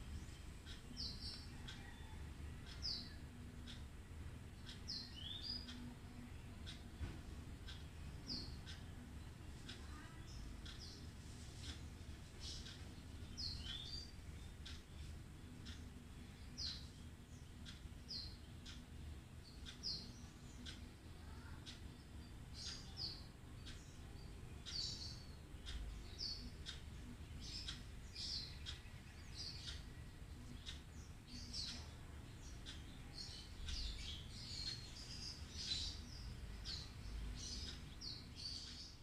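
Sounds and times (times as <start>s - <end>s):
small birds chirping: 0.0s - 39.0s
faint ticks: 0.2s - 39.0s.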